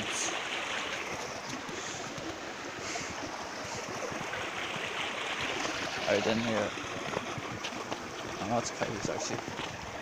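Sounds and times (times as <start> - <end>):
stream rushing: 0.0 - 10.0.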